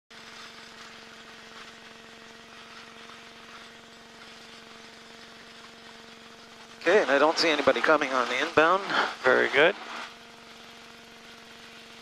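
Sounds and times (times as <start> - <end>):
ultralight aircraft engine humming: 0.1 - 12.0.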